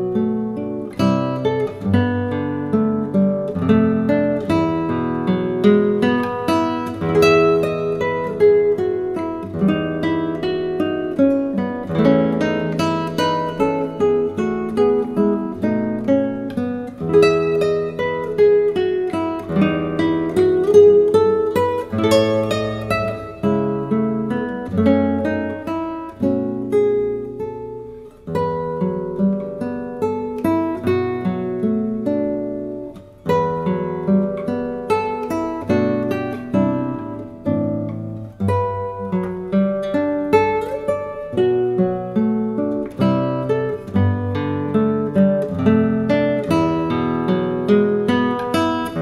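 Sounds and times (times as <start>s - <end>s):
guitar plucking slow chords: 0.0s - 49.0s.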